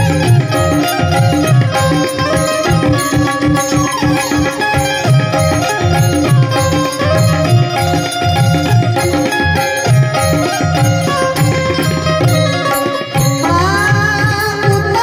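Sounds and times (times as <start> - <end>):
stringed melody: 0.0 - 15.0
tabla rhythm: 0.0 - 15.0.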